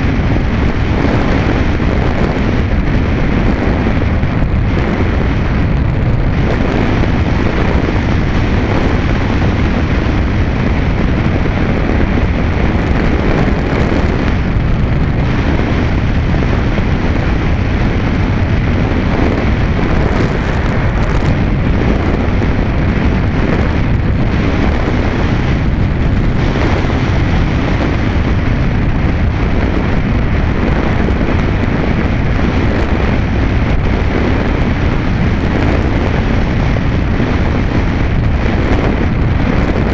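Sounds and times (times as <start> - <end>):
electric motor and propeller: 0.0 - 39.9
wind rushing over microphone: 0.0 - 39.9.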